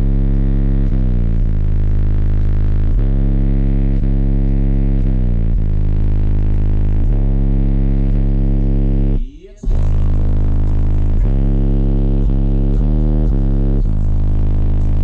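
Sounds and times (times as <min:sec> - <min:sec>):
bass-heavy electronic music: 0:00.0 - 0:15.0.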